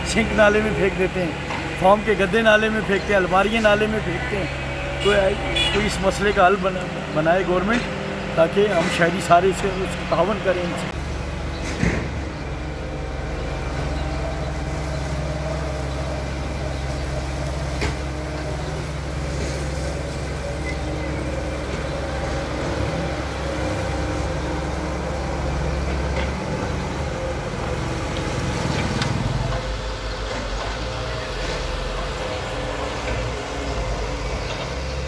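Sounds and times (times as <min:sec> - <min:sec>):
excavator diesel engine drone: 0:00.0 - 0:35.0.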